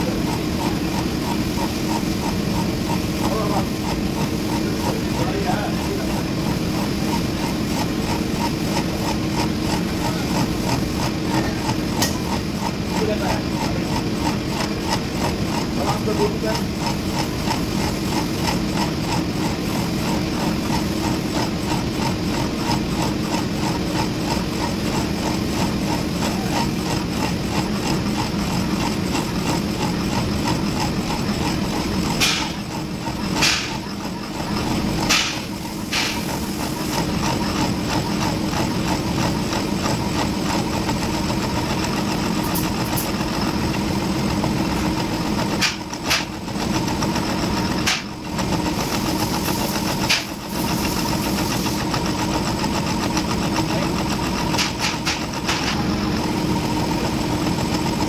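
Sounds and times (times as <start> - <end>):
milling machine hum: 0.0 - 58.0.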